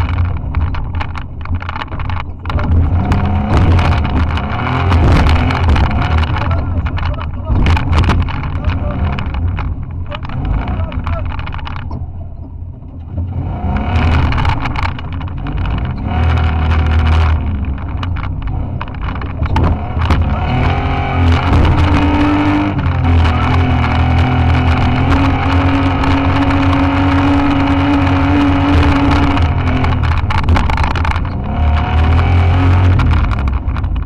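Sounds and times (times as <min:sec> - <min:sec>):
car body knocking and rattling: 0:00.0 - 0:34.0
car engine running hard: 0:00.0 - 0:34.0.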